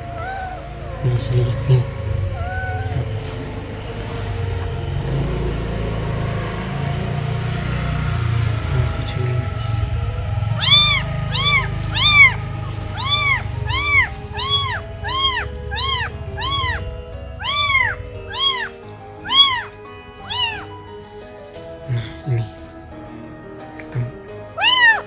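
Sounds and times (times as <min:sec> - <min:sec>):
cat meowing: 0:00.0 - 0:22.9, 0:23.6 - 0:25.0
low rumble: 0:00.0 - 0:23.4.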